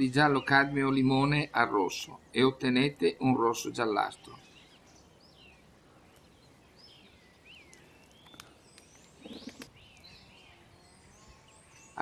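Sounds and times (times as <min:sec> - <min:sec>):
faint birdsong chirps: 0:00.0 - 0:12.0.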